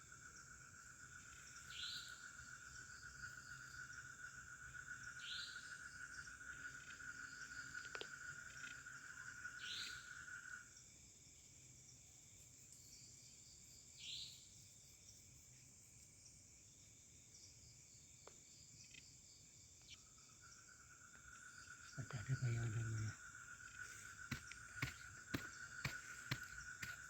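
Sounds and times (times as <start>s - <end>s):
short higher insect calls: 0.0s - 10.6s, 12.6s - 16.4s, 17.3s - 27.0s
crickets and insects trilling: 0.0s - 27.0s
lower insect trill: 0.0s - 27.0s.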